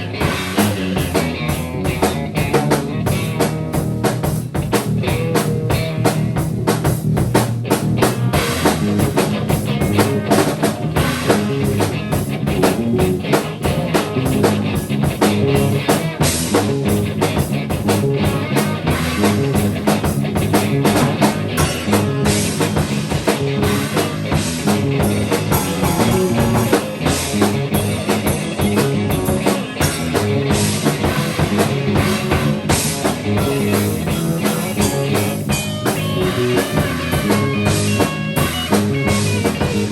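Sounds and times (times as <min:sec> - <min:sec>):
drums playing fast beat: 0:00.0 - 0:39.9
live rock band: 0:00.0 - 0:39.9.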